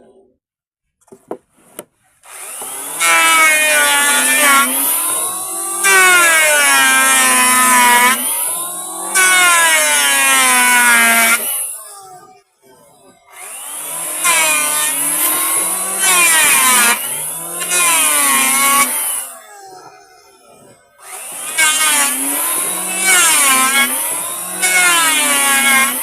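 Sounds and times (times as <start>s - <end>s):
electric planer planing wood: 2.2s - 26.0s.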